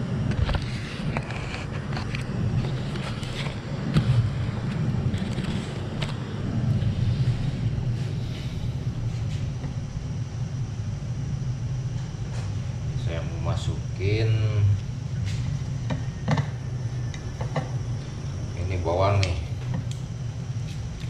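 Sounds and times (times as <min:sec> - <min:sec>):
low rumbling hum: 0:00.0 - 0:21.0.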